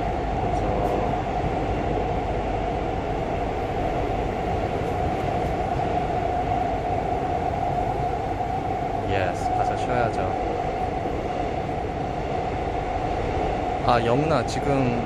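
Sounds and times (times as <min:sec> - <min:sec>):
steady train whine: 0:00.0 - 0:15.0
subway train rumble: 0:00.0 - 0:15.0.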